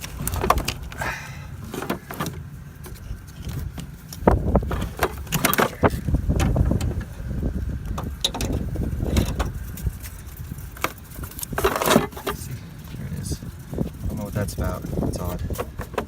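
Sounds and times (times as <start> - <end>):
low rumble: 2.4 - 15.4.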